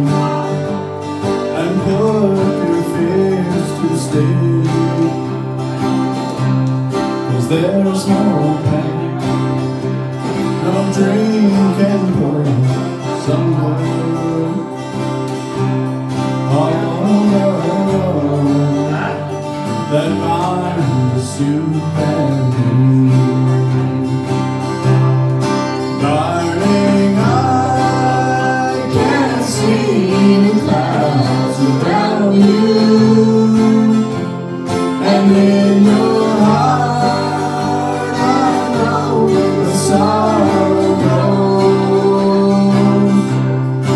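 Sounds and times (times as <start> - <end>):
mandolin: 0.0 - 43.9
strummed acoustic guitars: 0.0 - 43.9.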